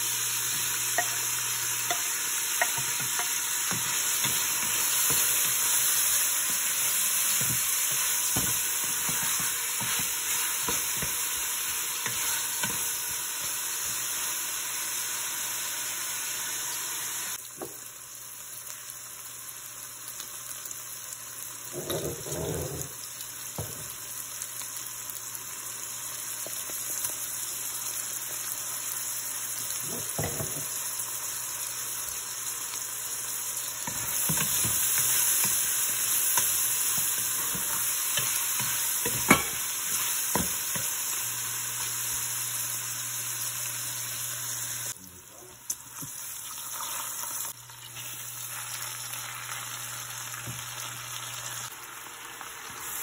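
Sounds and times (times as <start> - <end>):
meat and onion sizzling: 0.0 - 53.0.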